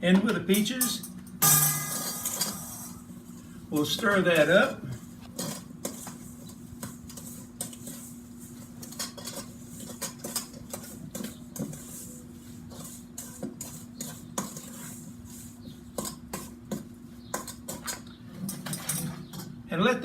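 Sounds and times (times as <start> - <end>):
spoon clinking and scraping bowl: 0.9 - 4.6, 5.3 - 19.6.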